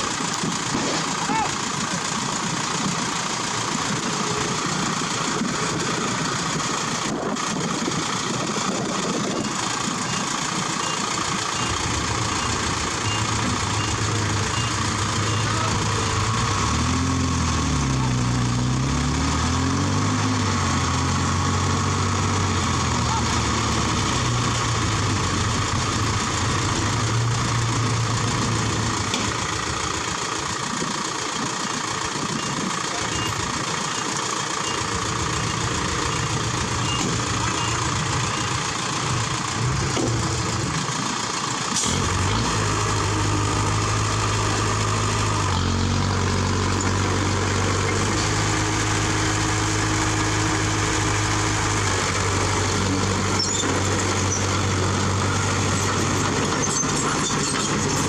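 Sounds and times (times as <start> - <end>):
deep steady engine note: 0.0 - 58.0
heavy diesel engines running: 0.0 - 58.0.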